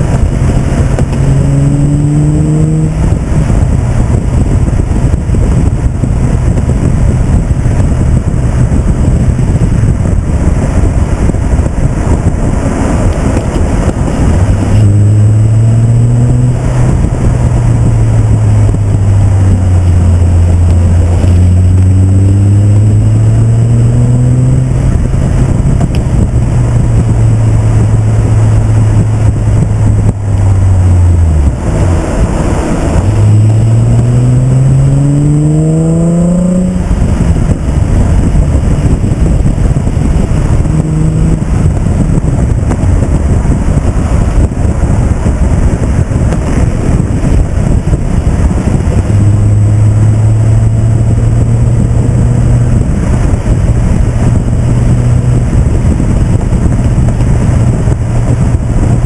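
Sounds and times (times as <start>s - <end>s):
car engine revving: 0.0s - 59.0s
loud wind: 0.0s - 59.0s.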